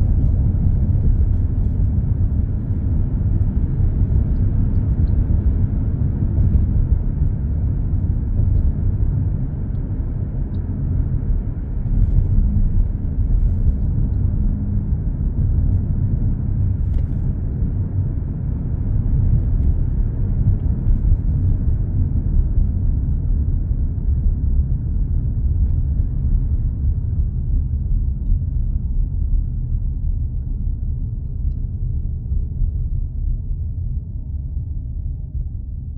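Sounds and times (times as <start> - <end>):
car road rumble from inside: 0.0 - 35.9.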